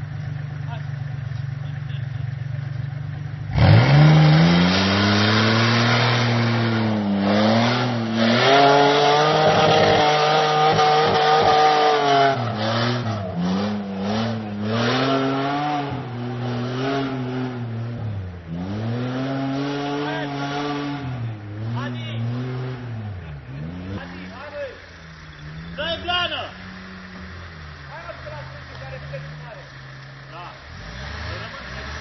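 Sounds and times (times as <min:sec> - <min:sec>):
suv engine revving: 0:00.0 - 0:32.0.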